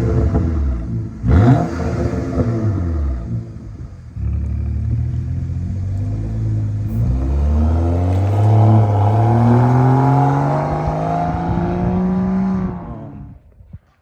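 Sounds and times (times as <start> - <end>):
car engine accelerating hard: 0.0 - 13.4.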